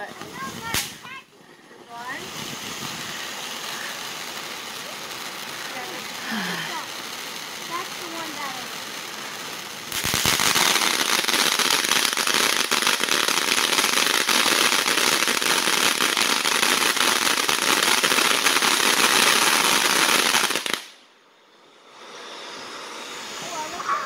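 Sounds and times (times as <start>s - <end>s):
firework hissing and crackling: 0.0s - 24.0s.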